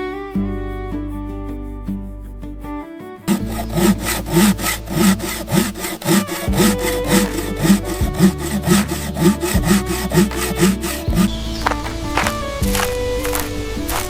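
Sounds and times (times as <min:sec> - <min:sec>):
background music: 0:00.0 - 0:14.0
fast rasping strokes: 0:02.4 - 0:14.0.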